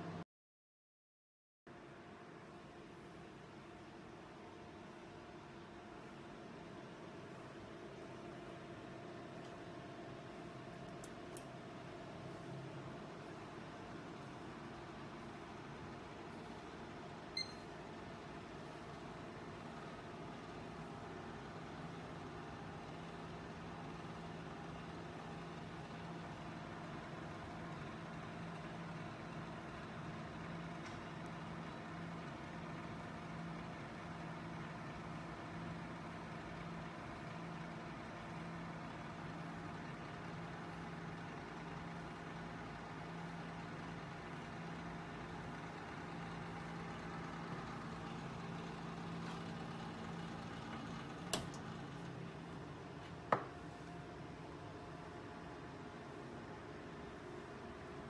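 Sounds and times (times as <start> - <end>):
computer fans humming: 1.8 - 58.0.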